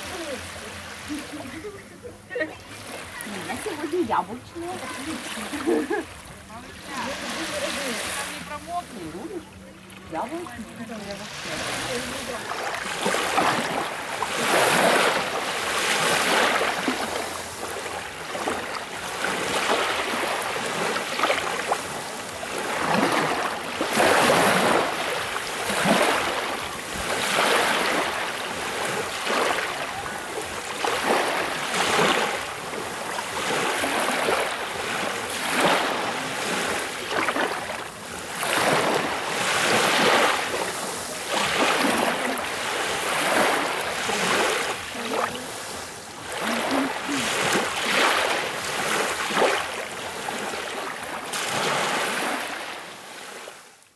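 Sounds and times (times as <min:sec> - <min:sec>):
small waves breaking on shore: 0:00.0 - 0:53.9.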